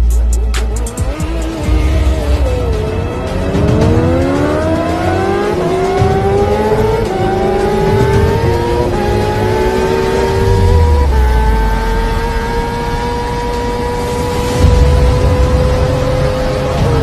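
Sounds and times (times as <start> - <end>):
motorbike engine accelerating: 0.6 - 17.0.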